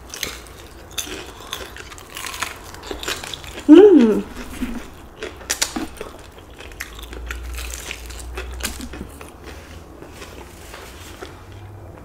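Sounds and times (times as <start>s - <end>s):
crunchy chewing of fried chicken: 0.0s - 12.0s.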